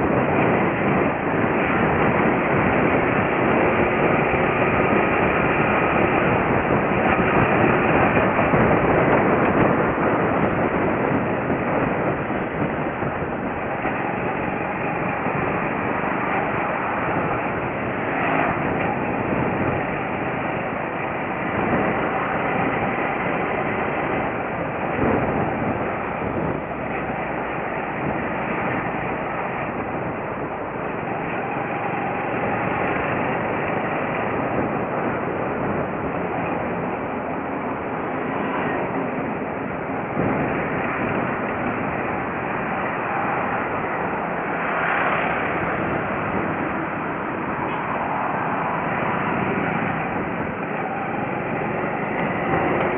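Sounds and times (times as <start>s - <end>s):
motorcycle engine and rushing air: 0.0s - 52.9s.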